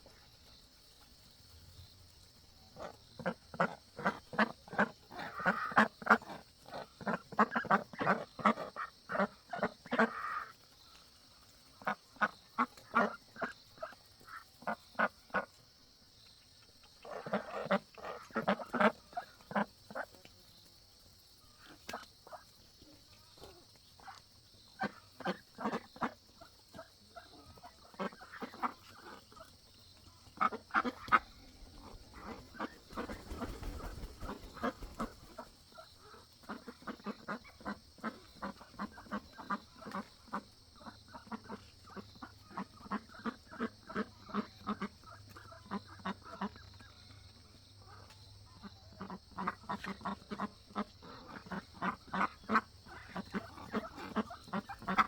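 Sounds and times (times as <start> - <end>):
ducks quacking: 2.7 - 11.1, 11.7 - 15.7, 17.0 - 20.2, 21.5 - 55.0.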